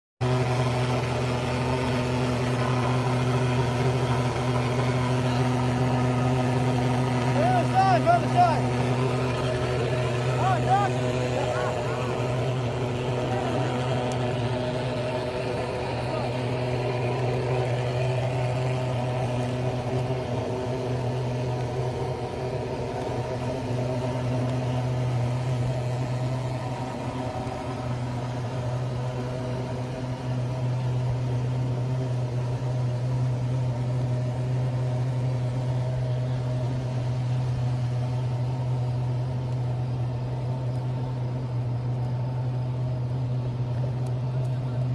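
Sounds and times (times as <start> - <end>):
motor humming: 0.2 - 44.9.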